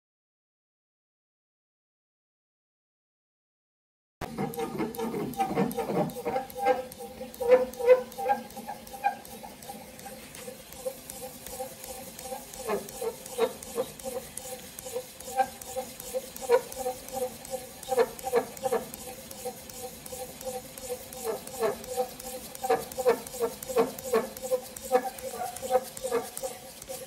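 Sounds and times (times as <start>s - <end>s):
sandpaper dowel squeaking and rubbing: 4.2s - 27.0s.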